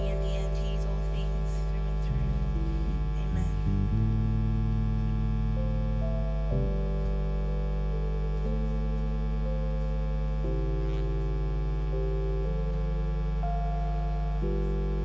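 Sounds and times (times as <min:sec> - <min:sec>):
keyboard pad chords: 0:00.0 - 0:15.0
steady low hum: 0:00.0 - 0:15.0.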